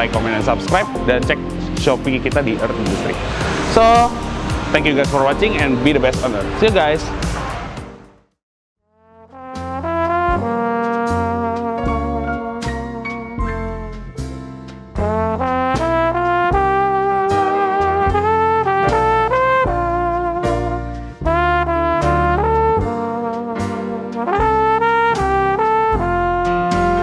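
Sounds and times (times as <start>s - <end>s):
upbeat brass-led instrumental music: 0.0s - 27.0s.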